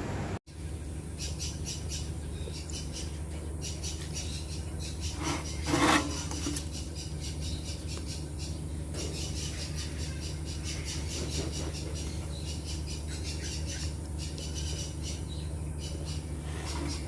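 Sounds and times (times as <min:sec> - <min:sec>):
steady low hum: 0:00.0 - 0:17.0
birds chirping: 0:00.5 - 0:17.0.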